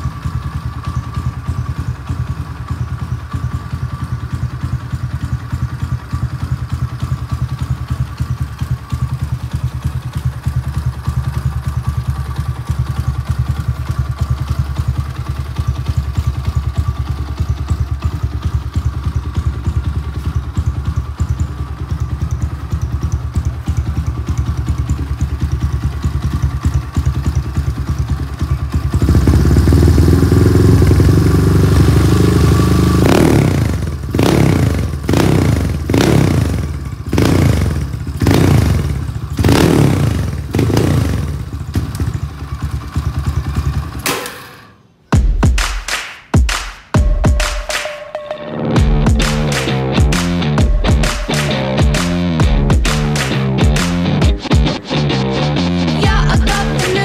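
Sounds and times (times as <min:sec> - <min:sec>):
motorcycle engine revving: 0:00.0 - 0:45.3, 0:48.6 - 0:57.0.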